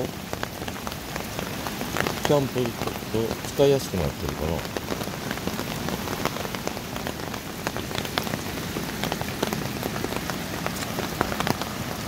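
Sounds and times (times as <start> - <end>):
heavy rain falling: 0.0 - 12.0
raindrops ticking close by: 0.0 - 12.0.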